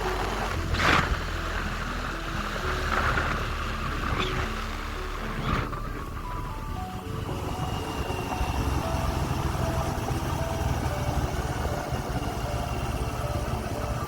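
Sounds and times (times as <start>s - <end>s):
motorcycle engine running: 0.0s - 14.0s
road noise: 0.0s - 14.0s
wind on microphone: 0.0s - 14.0s.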